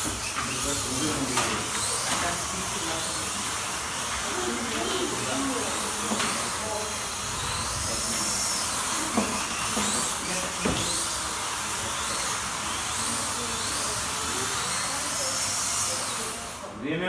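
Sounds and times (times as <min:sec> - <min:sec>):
slot car motors whining: 0:00.0 - 0:16.8.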